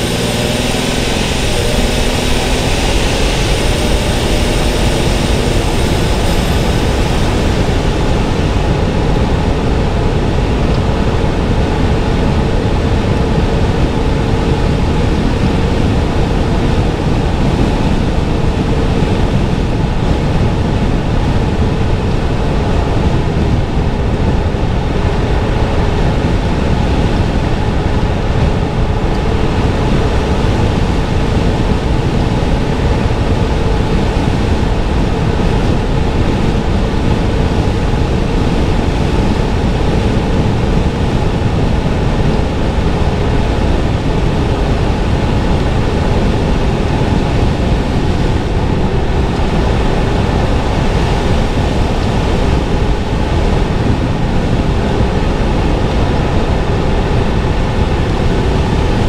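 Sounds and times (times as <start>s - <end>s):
car road and tyre noise: 0.0s - 59.0s.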